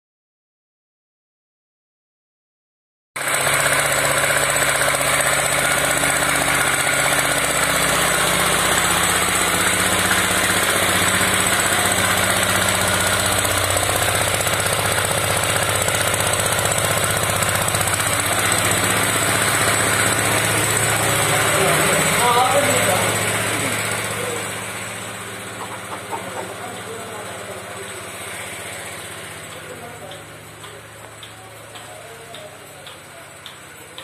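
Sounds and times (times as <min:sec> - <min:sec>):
petrol engine running: 0:03.2 - 0:34.0
vacuum pump hissing: 0:03.2 - 0:34.0.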